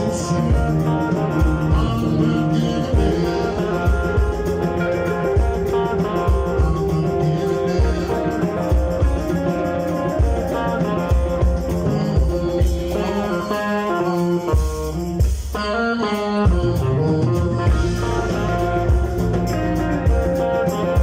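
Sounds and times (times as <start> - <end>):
bass guitar: 0.0 - 21.0
drum kit beat: 0.0 - 21.0
electric guitars: 0.0 - 21.0.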